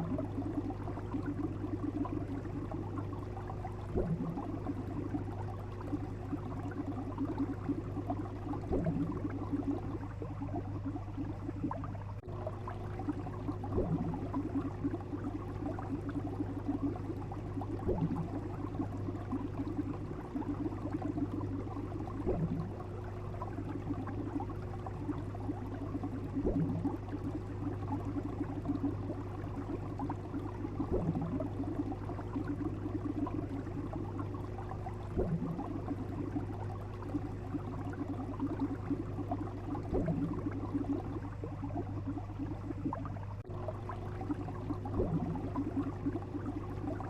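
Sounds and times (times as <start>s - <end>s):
bubbling crackling water: 0.0s - 47.0s
constant low hum: 0.0s - 47.0s.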